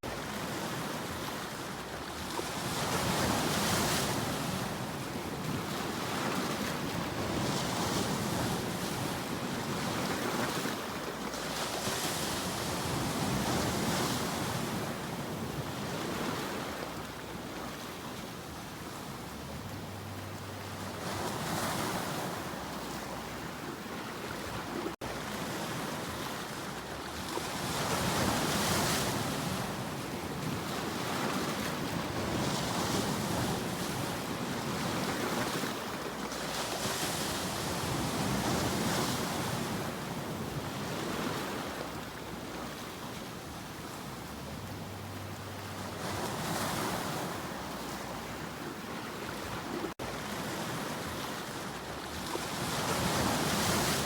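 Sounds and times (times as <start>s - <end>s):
sea waves washing in: 0.0s - 54.0s.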